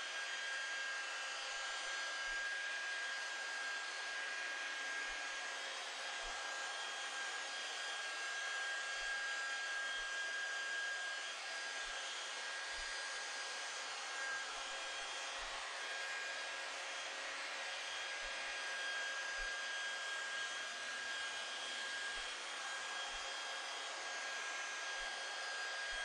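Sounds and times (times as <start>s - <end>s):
electric drill motor whine: 0.0s - 26.0s.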